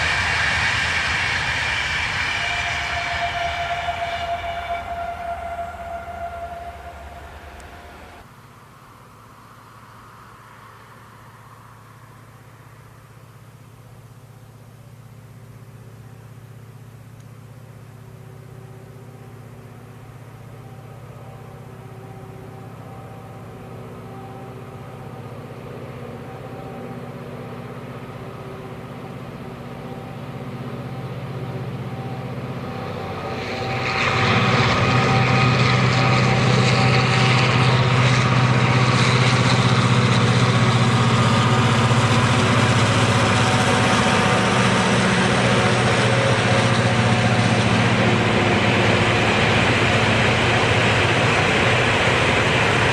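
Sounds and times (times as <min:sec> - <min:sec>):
rush of passing train: 0:00.0 - 0:08.5, 0:09.3 - 0:52.9
locomotive engine drone: 0:00.0 - 0:52.9.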